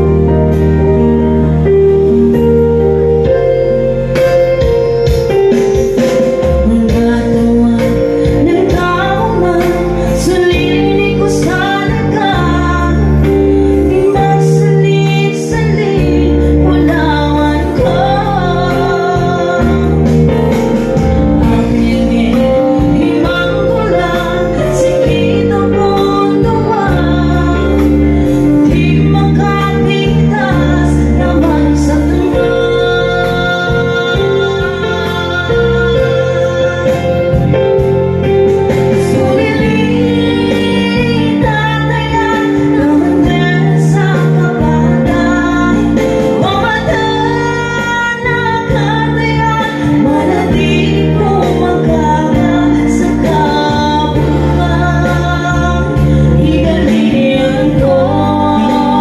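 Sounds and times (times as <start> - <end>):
electronic keyboard chords and bass: 0.0 - 59.0
woman singing into a microphone: 0.0 - 59.0.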